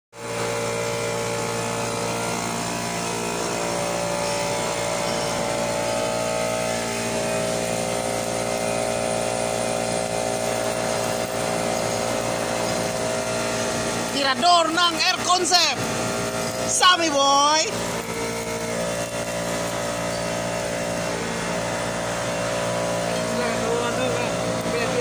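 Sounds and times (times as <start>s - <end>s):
steady hum: 0.2s - 25.0s
welding arc crackling and hissing: 0.2s - 25.0s.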